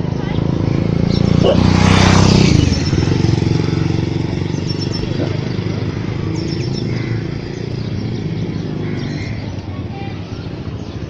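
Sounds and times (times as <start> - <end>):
motorcycle engine receding: 0.0 - 9.9
birds chirping: 0.0 - 11.0.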